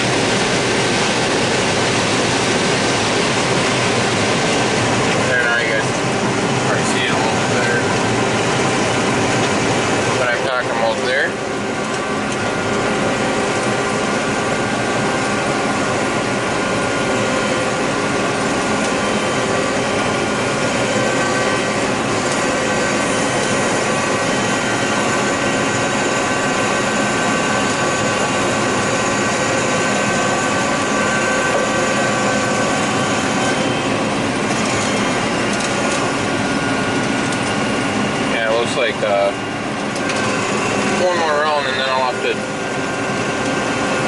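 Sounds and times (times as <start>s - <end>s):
combine harvester droning: 0.0s - 44.0s.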